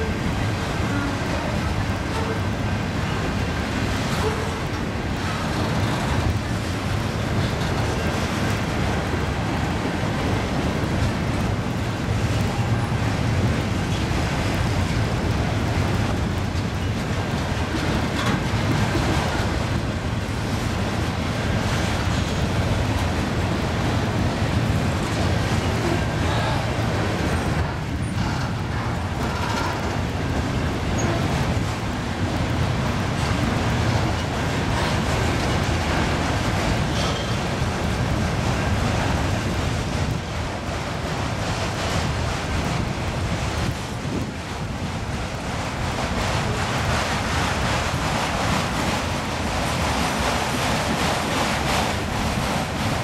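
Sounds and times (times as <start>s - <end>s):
freight train wheels clattering: 0.0s - 53.0s.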